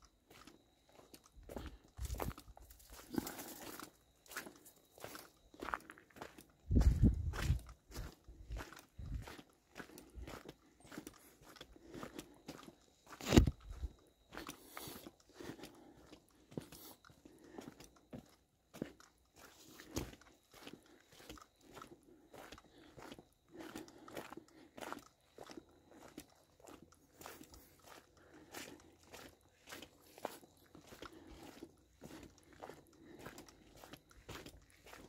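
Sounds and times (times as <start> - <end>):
footsteps crunching on wet dirt: 0.1 - 35.0.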